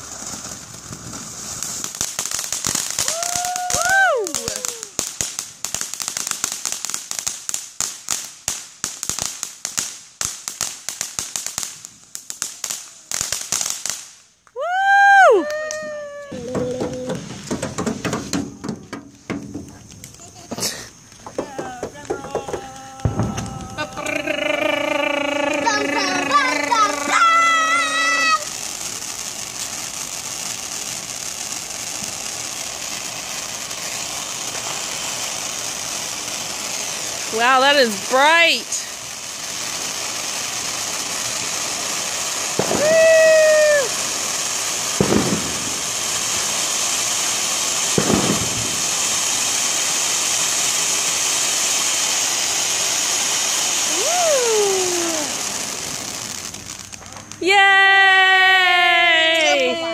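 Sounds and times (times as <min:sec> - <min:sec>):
firework fountain hissing and crackling: 0:00.0 - 0:59.9.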